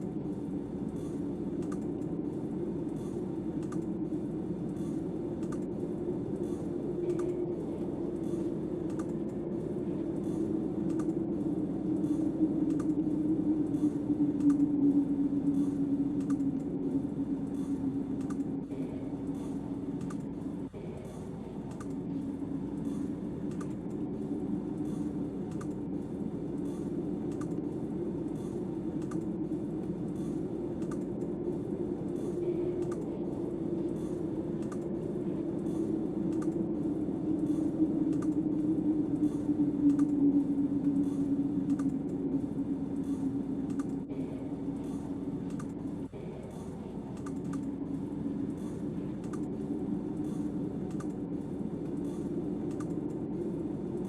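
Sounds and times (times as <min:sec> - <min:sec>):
snowstorm wind blowing: 0:00.0 - 0:54.0
light ticking: 0:00.9 - 0:20.7, 0:21.7 - 0:53.3.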